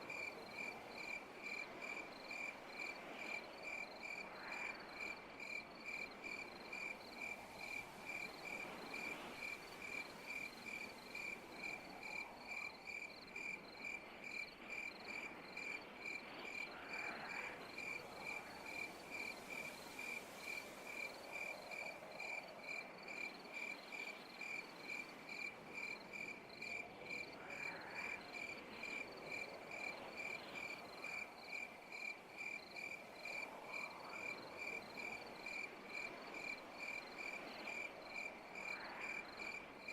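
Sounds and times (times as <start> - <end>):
cricket chirping: 0.0 - 39.9
night insects humming: 0.0 - 39.9.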